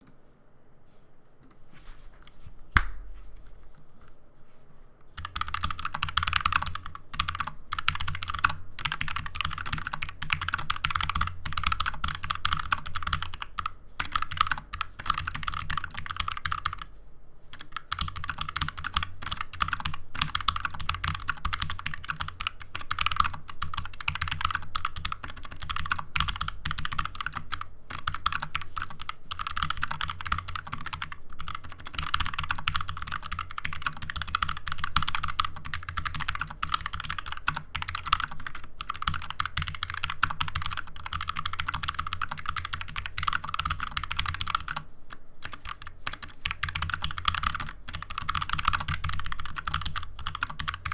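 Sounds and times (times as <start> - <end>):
fast keyboard typing: 5.2 - 16.9, 17.5 - 44.8, 45.4 - 50.9.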